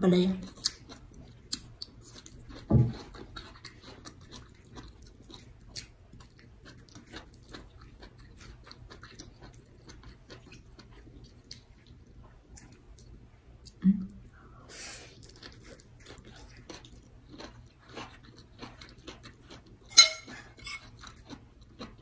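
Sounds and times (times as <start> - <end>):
person chewing with mouth clicks: 0.3 - 14.2, 15.1 - 22.0.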